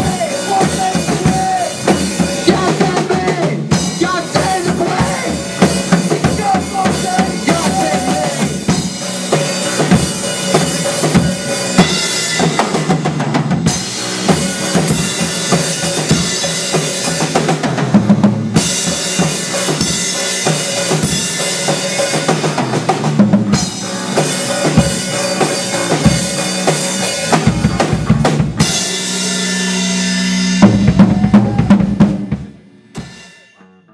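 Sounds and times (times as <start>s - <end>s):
drum kit with bass drum and snare: 0.0s - 33.6s
rock band playing: 0.0s - 33.9s.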